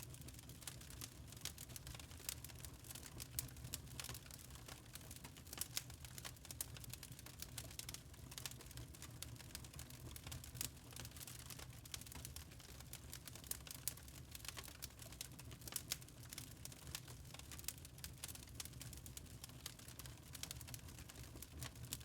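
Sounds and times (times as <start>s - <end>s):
low rumble of burning logs: 0.0s - 22.0s
wood fire crackling and popping: 0.0s - 22.0s.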